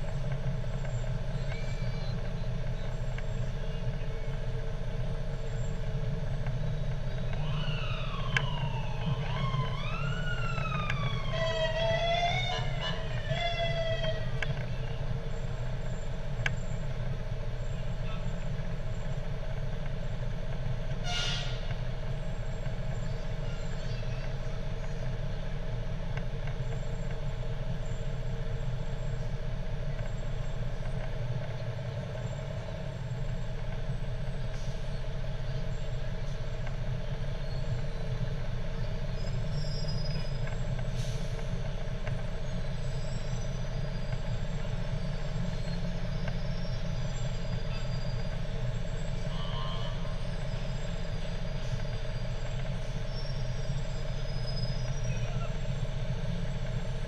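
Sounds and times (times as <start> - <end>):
fire truck engine rumbling: 0.0 - 57.0.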